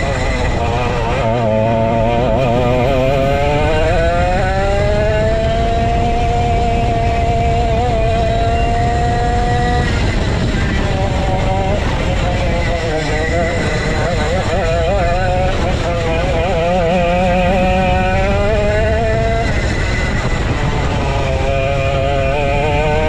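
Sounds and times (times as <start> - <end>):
go-kart engine accelerating: 0.0 - 23.0.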